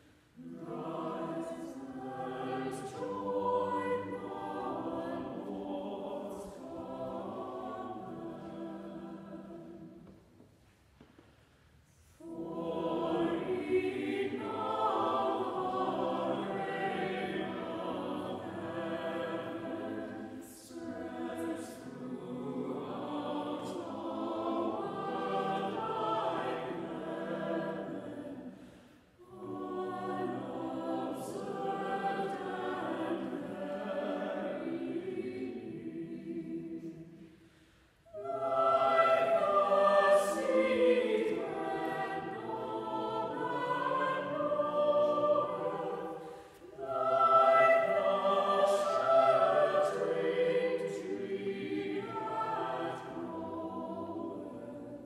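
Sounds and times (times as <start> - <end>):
choir singing a cappella: 0.0 - 10.4, 11.9 - 55.0.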